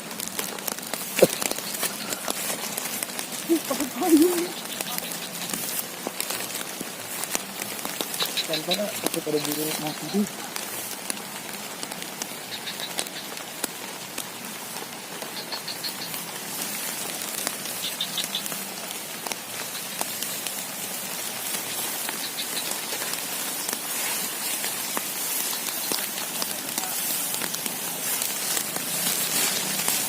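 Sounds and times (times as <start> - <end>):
heavy rain falling: 0.0 - 30.0
raindrops ticking close by: 0.0 - 30.0.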